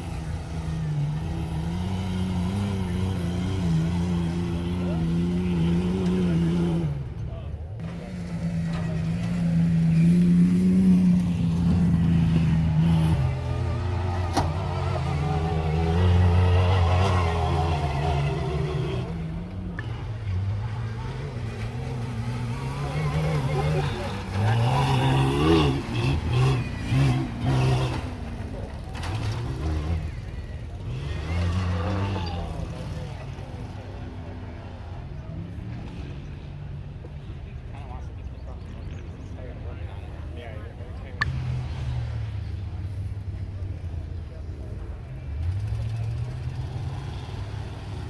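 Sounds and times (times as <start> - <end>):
truck engine at high revs: 0.0 - 37.3, 40.2 - 48.0.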